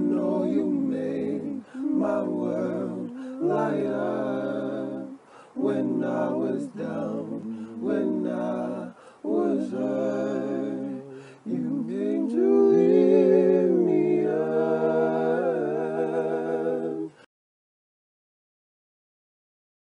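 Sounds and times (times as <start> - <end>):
male a cappella vocal harmony: 0.0 - 17.3.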